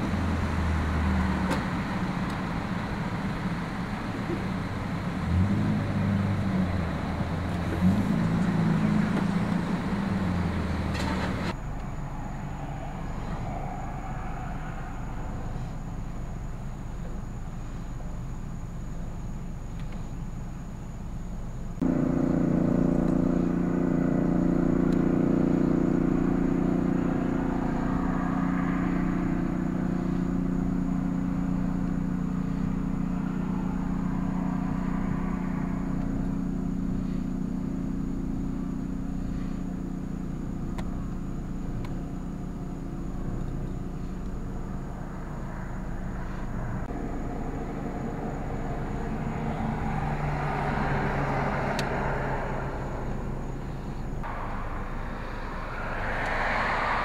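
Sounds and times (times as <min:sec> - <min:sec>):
car engine humming: 0:00.0 - 0:57.0
vehicles passing: 0:00.0 - 0:57.0.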